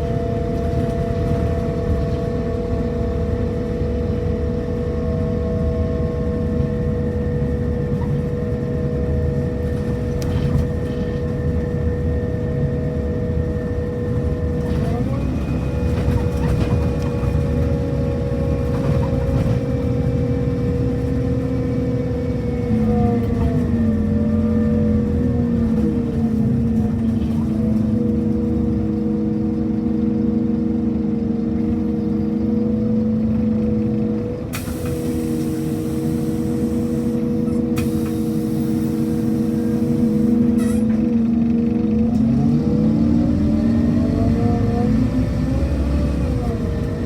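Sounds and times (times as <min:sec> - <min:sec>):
bus engine high whine: 0:00.0 - 0:47.0.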